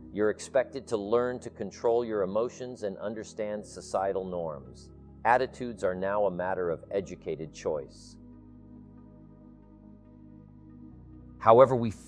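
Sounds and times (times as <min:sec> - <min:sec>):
ambient music sustained chord: 0:00.0 - 0:12.0.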